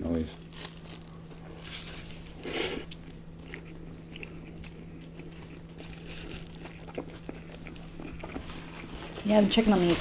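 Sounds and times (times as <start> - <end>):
steady low hum: 0.0 - 10.0
person chewing: 0.3 - 9.2.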